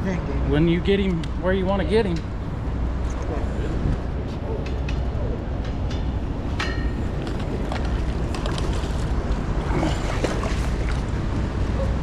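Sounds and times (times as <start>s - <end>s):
wind rumble on microphone: 2.4s - 12.0s.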